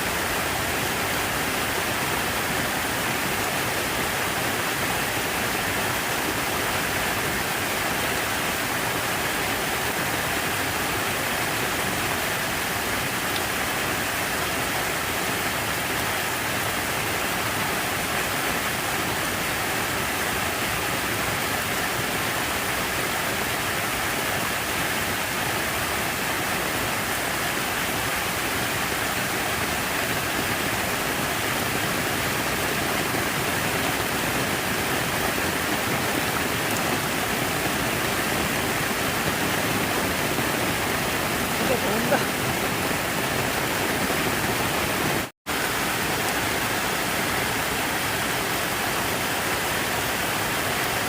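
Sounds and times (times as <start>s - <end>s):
running water rushing: 0.0s - 51.0s.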